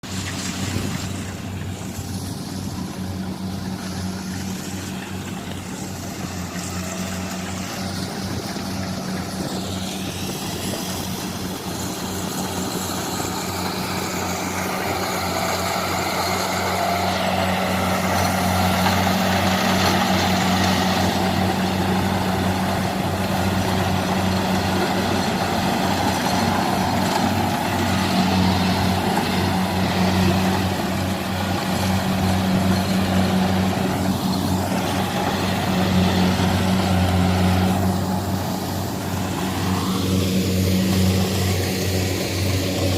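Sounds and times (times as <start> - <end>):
combine harvester diesel engine: 0.0 - 42.9.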